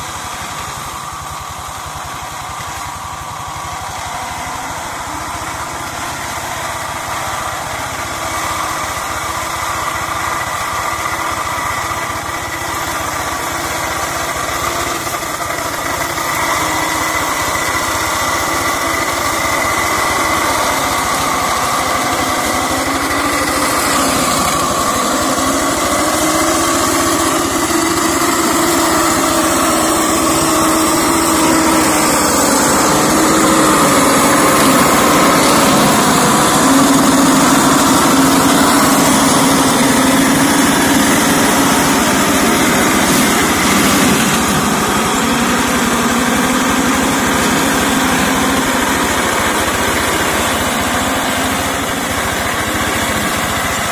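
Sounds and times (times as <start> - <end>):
hand tractor mower engine running: 0.0 - 53.9.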